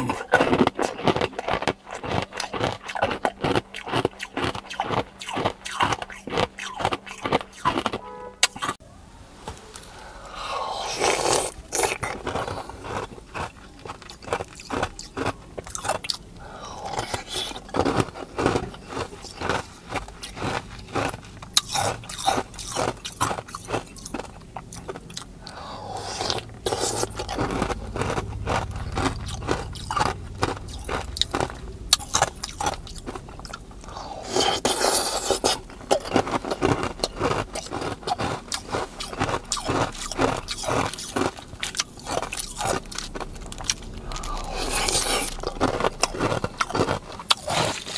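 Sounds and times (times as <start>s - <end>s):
crunching and chewing ice: 0.0s - 8.8s, 10.4s - 47.9s.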